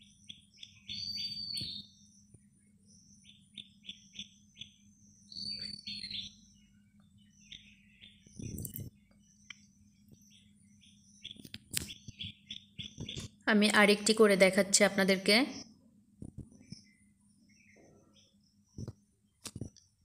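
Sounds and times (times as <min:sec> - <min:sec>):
small bird chirping: 0:00.0 - 0:14.4, 0:15.3 - 0:20.0
faint steady low hum: 0:00.0 - 0:20.0.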